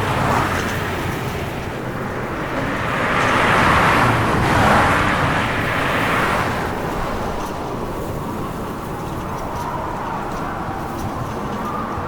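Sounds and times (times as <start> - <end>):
highway road noise: 0.0 - 12.0
wind roar: 0.0 - 12.0.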